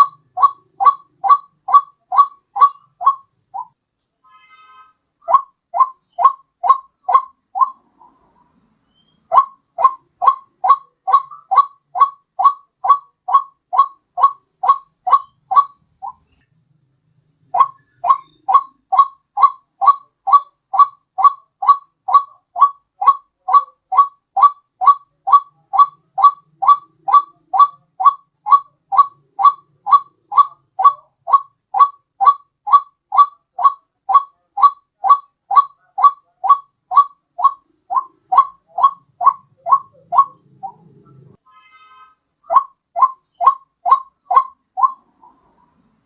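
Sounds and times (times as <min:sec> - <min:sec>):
waterhen call: 0:00.0 - 0:03.7, 0:04.4 - 0:08.3, 0:08.9 - 0:16.4, 0:17.5 - 0:45.6.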